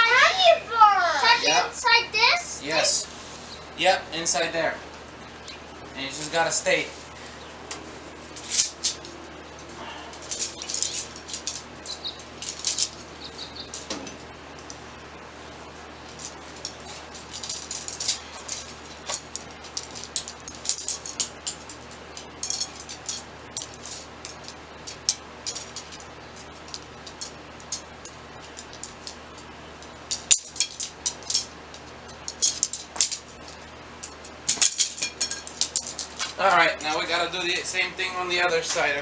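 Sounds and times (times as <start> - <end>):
tent poles clicking and rattling: 1.8 - 39.0.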